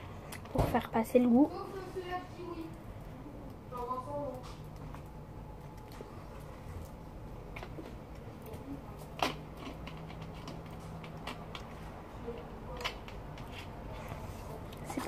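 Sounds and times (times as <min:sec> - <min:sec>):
faint clicks and small knocks: 0:02.5 - 0:15.0.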